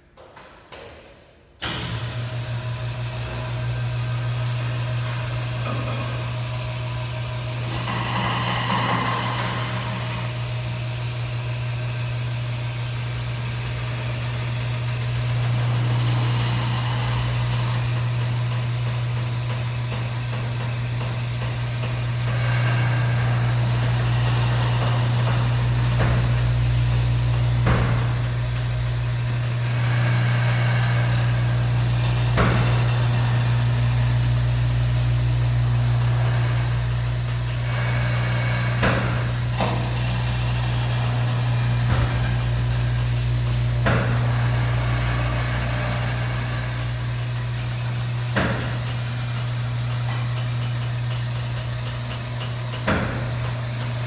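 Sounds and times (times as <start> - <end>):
door motor humming: 1.6 - 54.0.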